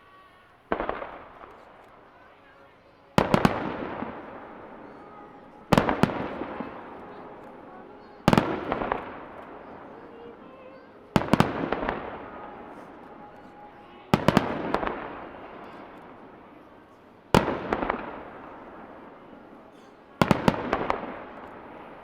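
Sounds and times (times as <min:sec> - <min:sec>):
firework crackling: 0:00.0 - 0:22.0.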